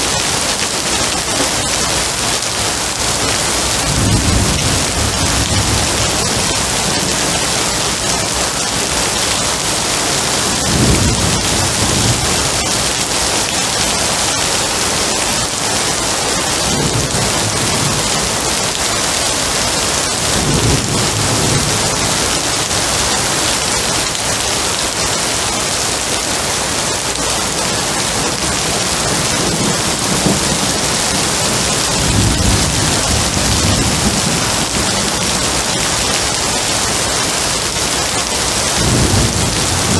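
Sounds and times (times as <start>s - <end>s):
low thunder rumbling: 0.0s - 13.5s, 14.9s - 25.1s, 27.6s - 39.9s
heavy rain hissing: 0.0s - 39.9s.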